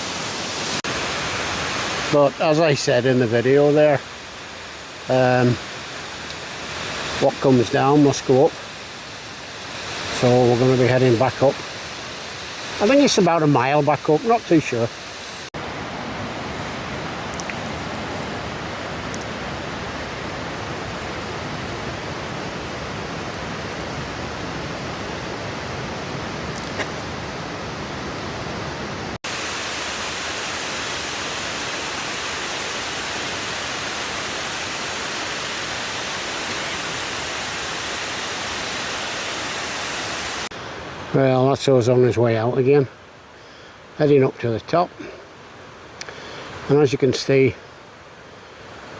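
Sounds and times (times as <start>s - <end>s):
waterfall and river rushing: 0.0s - 48.9s.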